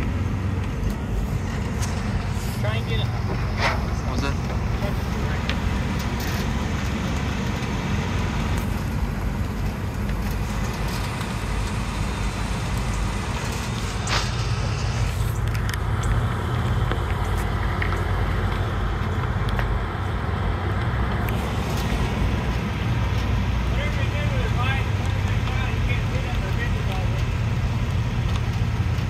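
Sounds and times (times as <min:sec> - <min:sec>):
cars driving on road: 0:00.0 - 0:29.0.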